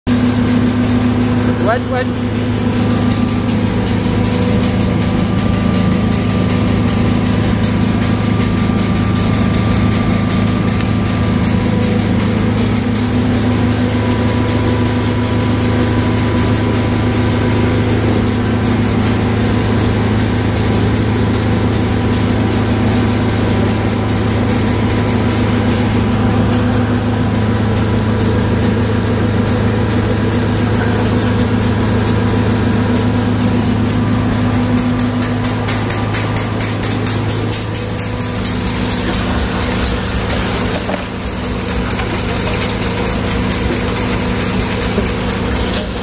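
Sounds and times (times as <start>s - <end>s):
pump and drum screen humming: 0.1s - 46.0s.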